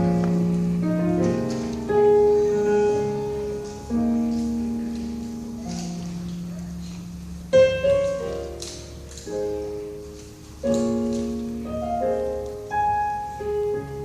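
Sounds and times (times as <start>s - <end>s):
piano playing slow chords: 0.0s - 14.0s.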